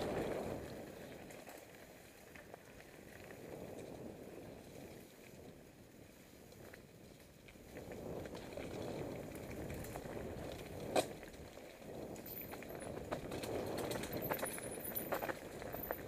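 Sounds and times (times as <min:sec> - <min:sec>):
bike rattles and clicks: 0:00.0 - 0:16.0
bike tyres rolling on dirt: 0:00.0 - 0:16.0.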